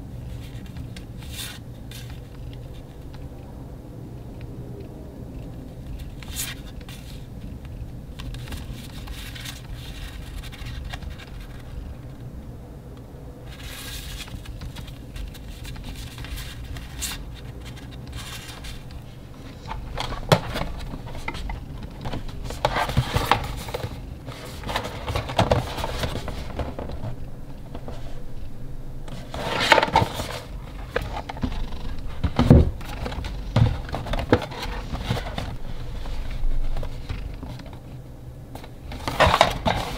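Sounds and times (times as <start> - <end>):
low steady hum: 0.0 - 39.9
card rustling: 0.2 - 3.3, 5.4 - 12.2, 13.4 - 39.9.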